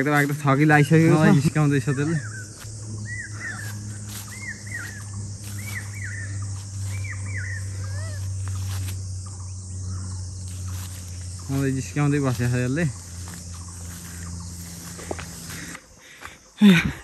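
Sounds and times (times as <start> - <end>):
bird chirping: 0.0 - 15.9
insects hissing: 0.0 - 17.0.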